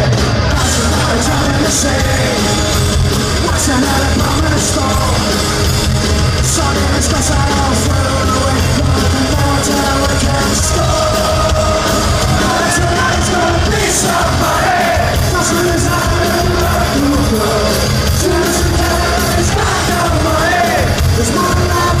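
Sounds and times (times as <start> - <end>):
crowd singing and yelling: 0.0 - 22.0
live rock band playing: 0.0 - 22.0.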